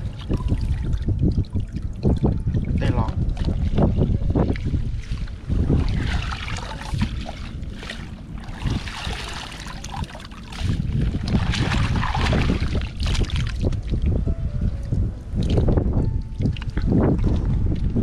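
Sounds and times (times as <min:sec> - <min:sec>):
water splashing and sloshing: 0:00.0 - 0:18.0
wind buffeting microphone: 0:00.0 - 0:18.0.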